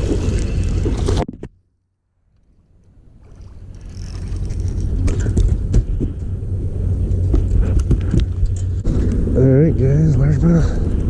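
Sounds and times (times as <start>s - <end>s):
wind rumbling on microphone: 0.0s - 1.5s, 2.5s - 11.0s.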